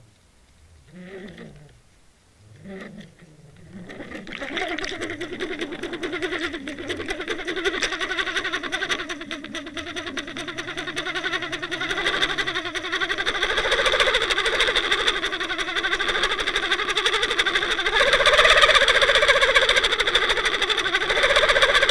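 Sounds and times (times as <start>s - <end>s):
underwater motor pulsing drone: 2.6s - 21.9s.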